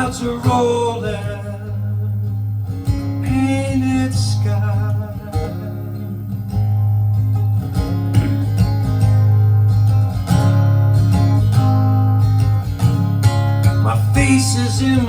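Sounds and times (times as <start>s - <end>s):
acoustic guitar ballad: 0.0s - 15.0s.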